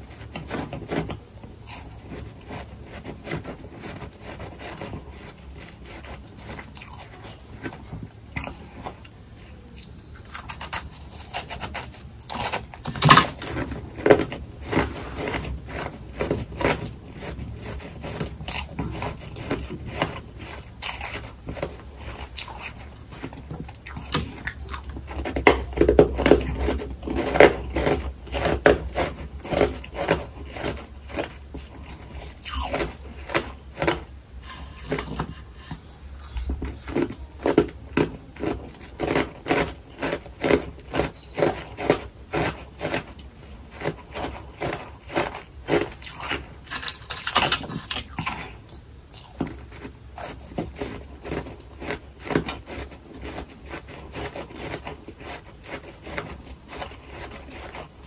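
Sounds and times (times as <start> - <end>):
chewing and crunching frost: 0.0 - 58.0.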